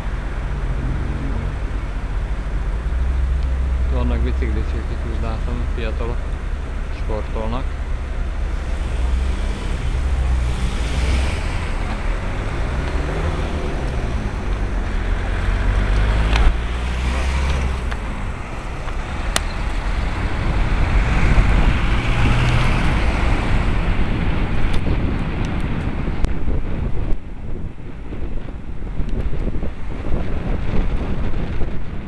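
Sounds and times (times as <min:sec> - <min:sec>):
car traffic: 0:00.0 - 0:32.0
wind noise on microphone: 0:00.0 - 0:32.0.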